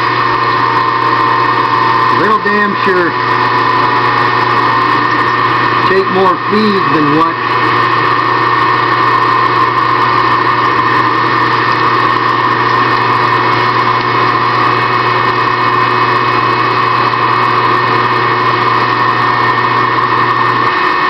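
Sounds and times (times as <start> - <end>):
drilling into aluminum: 0.0 - 21.0
electric motor whining: 0.0 - 21.0.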